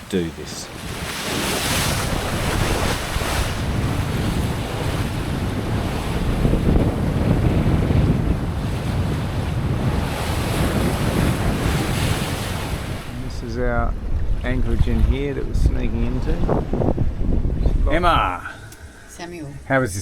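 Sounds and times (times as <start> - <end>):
water rushing past boat: 0.0 - 19.4
wind gusting on microphone: 0.4 - 19.7.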